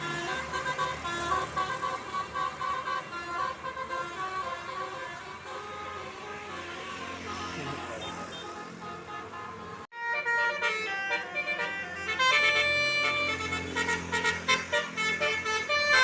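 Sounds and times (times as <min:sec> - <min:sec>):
bus horn playing multi-note tune: 0:00.0 - 0:16.0
steady vehicle sound: 0:00.0 - 0:16.0.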